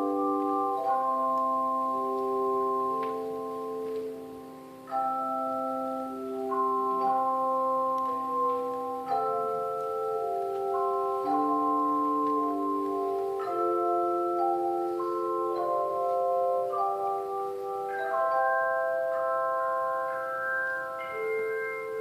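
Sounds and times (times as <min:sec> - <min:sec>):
handbell choir playing: 0:00.0 - 0:22.0.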